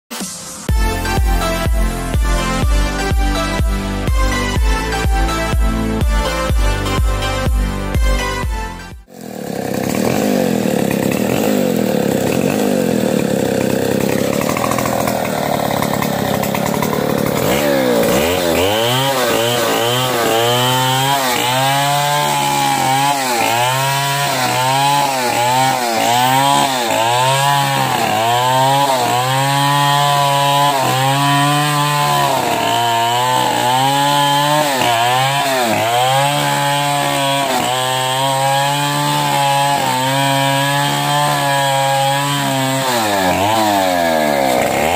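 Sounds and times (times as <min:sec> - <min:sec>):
chainsaw cutting wood: 0:00.1 - 0:44.9.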